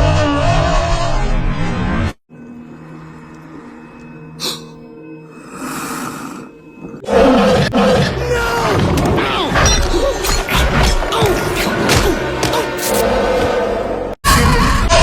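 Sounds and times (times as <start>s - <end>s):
soft film score: 2.3s - 15.0s.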